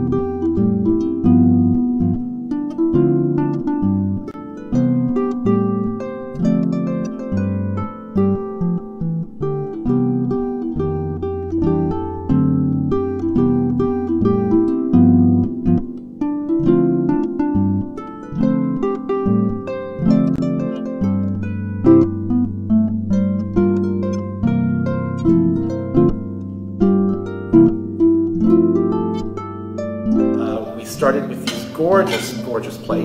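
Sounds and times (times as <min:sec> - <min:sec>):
plucked string melody: 0:00.0 - 0:33.0.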